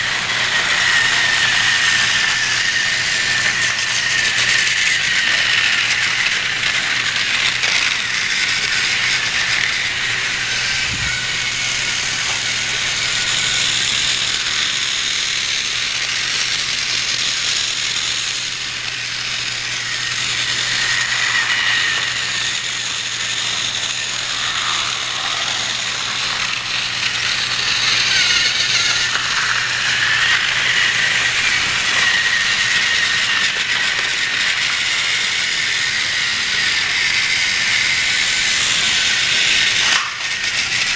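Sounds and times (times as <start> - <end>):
toy train motors whirring: 0.0 - 40.9.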